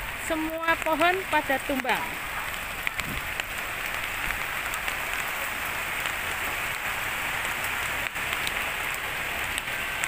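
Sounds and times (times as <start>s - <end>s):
heavy rain falling: 0.0s - 10.0s
water drips ticking: 0.0s - 10.0s.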